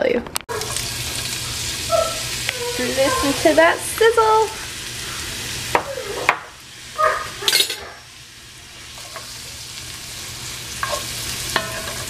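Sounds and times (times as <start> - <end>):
onion sizzling in oil: 0.5 - 12.0.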